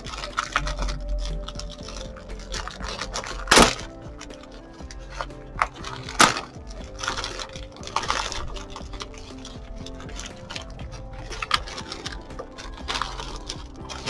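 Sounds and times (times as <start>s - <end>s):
plastic packaging crinkling: 0.0s - 14.0s
soft background music: 0.0s - 14.0s.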